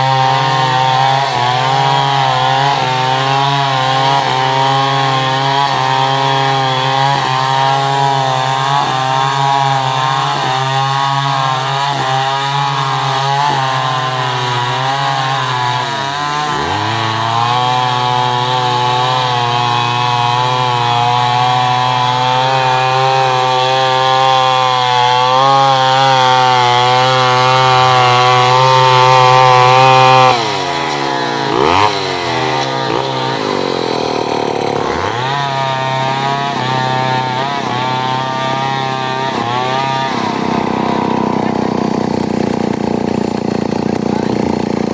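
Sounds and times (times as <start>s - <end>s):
chainsaw sawing through wood: 0.0s - 44.9s.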